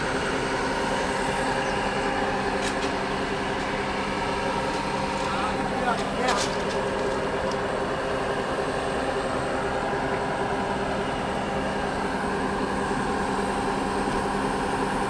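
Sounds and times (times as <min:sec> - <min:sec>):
train diesel engine humming: 0:00.0 - 0:15.0.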